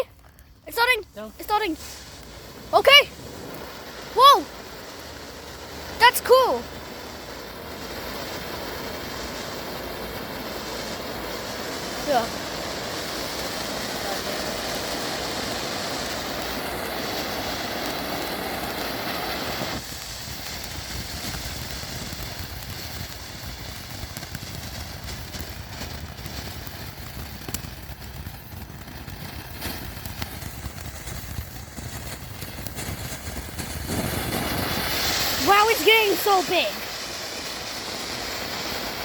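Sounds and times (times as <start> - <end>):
firework crackles: 0.0 - 39.0
firework fountain hissing: 0.0 - 39.0.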